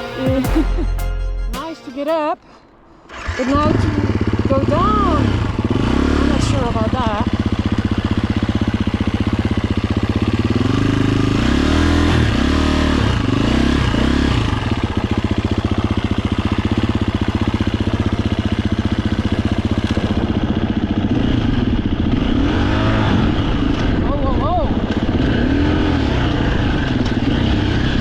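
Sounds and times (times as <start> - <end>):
motorbike engine revving: 3.0 - 28.0.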